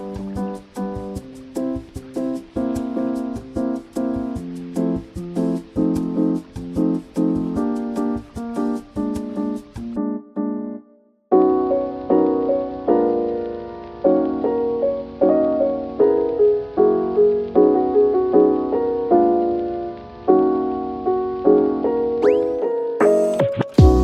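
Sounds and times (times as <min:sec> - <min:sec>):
soft piano tune: 0:00.0 - 0:24.0.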